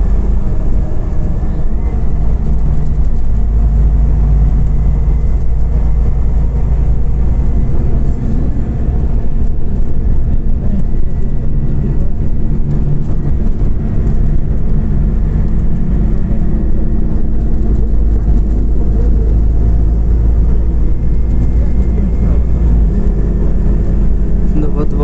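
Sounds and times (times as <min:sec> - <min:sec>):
bus engine rumbling: 0:00.0 - 0:25.0
road noise: 0:00.0 - 0:25.0.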